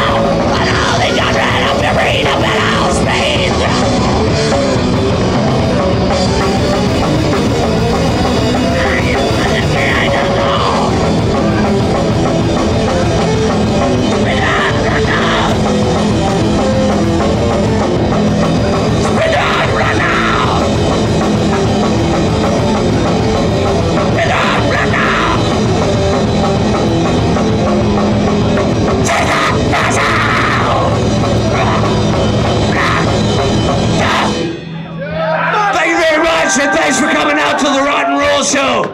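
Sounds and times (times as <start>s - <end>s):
drum kit: 0.0s - 34.6s
distorted electric guitar: 0.0s - 38.9s.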